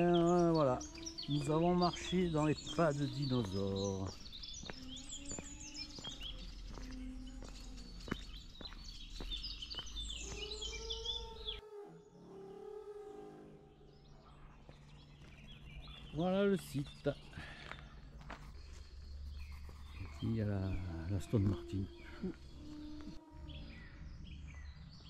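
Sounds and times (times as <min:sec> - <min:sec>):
small birds chirping: 0:00.0 - 0:11.6, 0:13.6 - 0:25.0.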